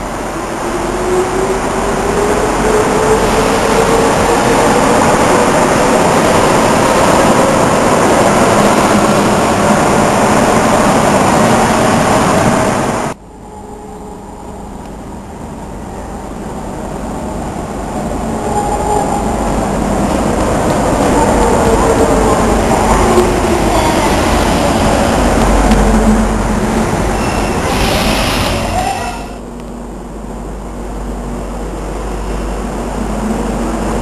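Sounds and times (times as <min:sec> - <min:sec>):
metro train rumbling: 0:00.0 - 0:34.0.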